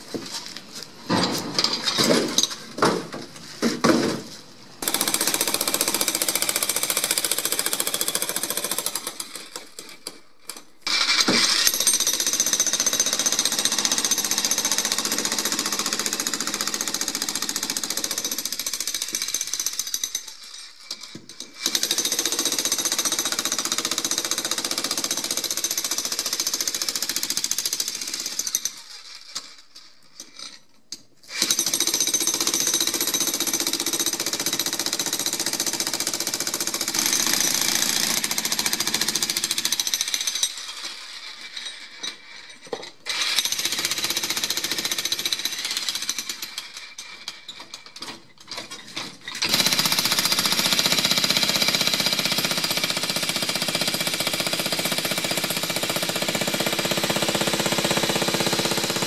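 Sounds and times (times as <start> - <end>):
jackhammer breaking concrete: 4.8 - 29.5, 31.3 - 59.0.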